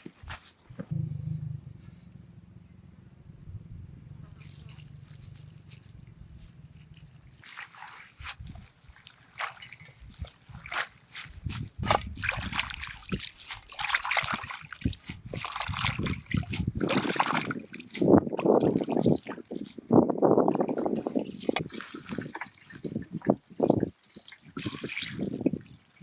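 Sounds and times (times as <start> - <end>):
water trickling and splashing: 4.2 - 26.0.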